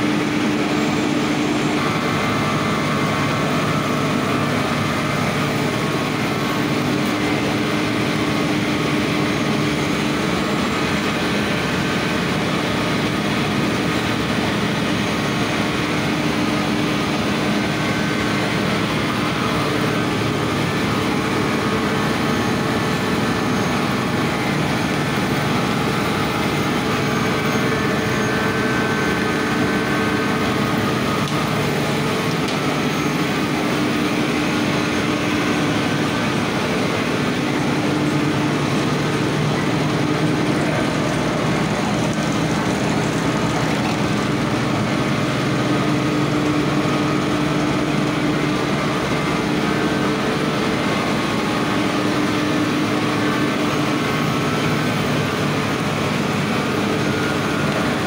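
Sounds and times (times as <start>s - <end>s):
constant machine hum: 0.0s - 58.0s
carding machine running: 1.9s - 52.0s.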